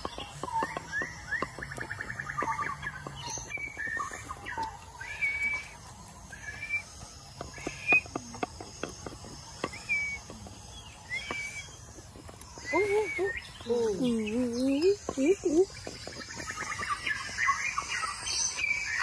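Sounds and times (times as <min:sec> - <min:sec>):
birds whistling: 0:00.0 - 0:19.0.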